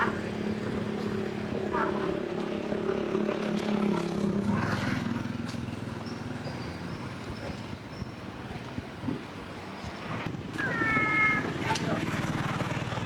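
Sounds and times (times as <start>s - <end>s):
outdoor ambient noise: 0.0s - 13.0s.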